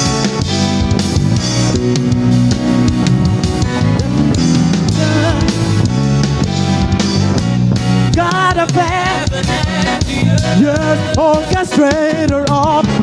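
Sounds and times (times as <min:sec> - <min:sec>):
bass guitar: 0:00.0 - 0:13.0
drum kit beat: 0:00.0 - 0:13.0
guitar: 0:00.0 - 0:13.0.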